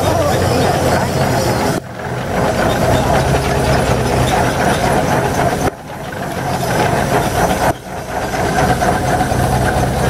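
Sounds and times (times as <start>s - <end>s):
logging winch engine running: 0.0s - 10.0s.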